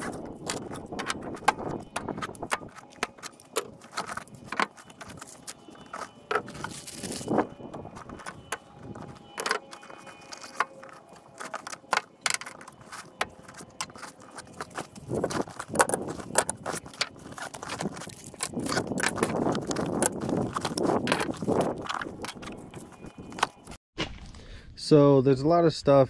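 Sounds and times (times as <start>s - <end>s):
rummaging in canvas tool bag: 0.0s - 23.8s.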